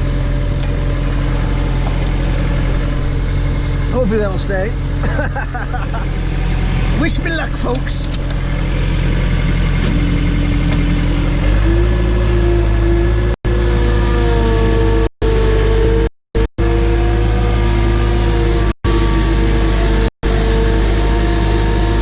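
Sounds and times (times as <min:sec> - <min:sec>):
backhoe engine revving: 0:00.0 - 0:22.0.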